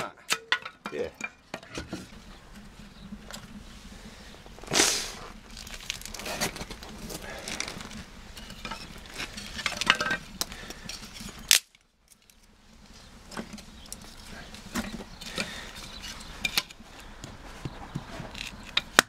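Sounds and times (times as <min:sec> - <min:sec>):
wood fire burning: 0:00.1 - 0:19.0.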